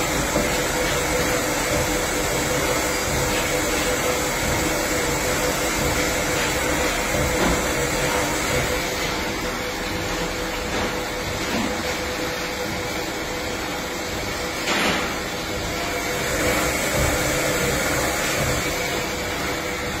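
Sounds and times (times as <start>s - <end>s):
lathe humming and whirring: 0.0s - 20.0s.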